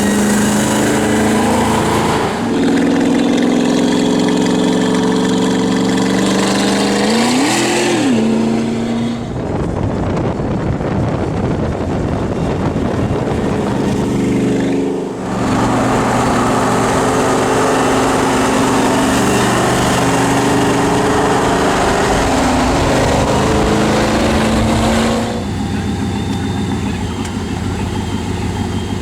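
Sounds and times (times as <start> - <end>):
supercharged engine droning: 0.0 - 29.0.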